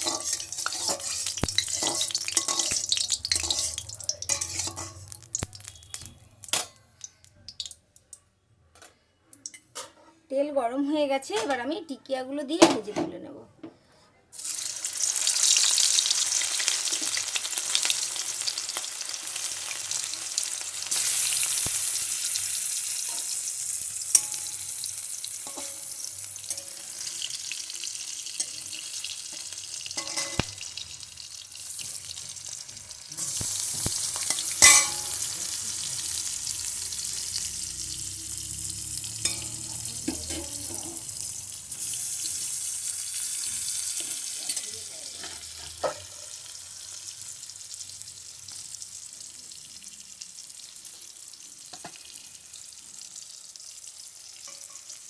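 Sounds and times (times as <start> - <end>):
patties sizzling in hot oil: 0.0 - 8.2, 14.4 - 55.0.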